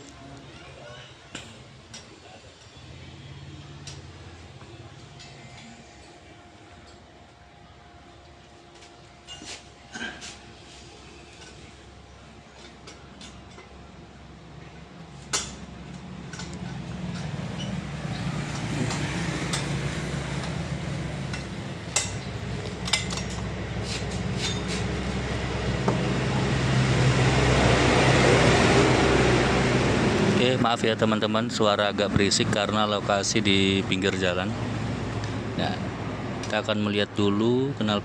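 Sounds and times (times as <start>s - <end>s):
heavy vehicle engine rumble: 2.6s - 37.8s.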